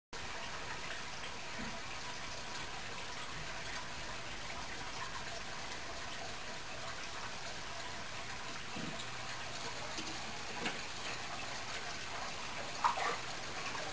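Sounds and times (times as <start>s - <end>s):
aquarium water rushing: 0.2s - 13.9s.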